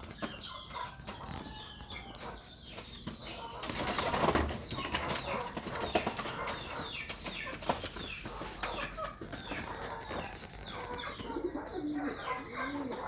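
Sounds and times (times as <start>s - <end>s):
birds chirping and clucking: 0.0s - 13.0s
pigeons cooing: 0.0s - 13.0s.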